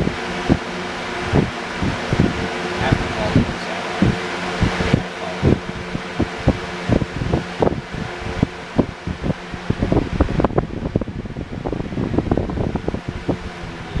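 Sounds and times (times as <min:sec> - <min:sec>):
box fan motor hum: 0:00.0 - 0:14.0
fan airflow rushing: 0:00.0 - 0:14.0
low thumps: 0:00.0 - 0:14.0.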